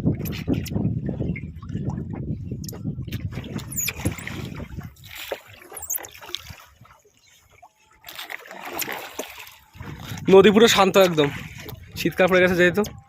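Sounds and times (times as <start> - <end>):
water sloshing along hull: 0.0 - 13.0.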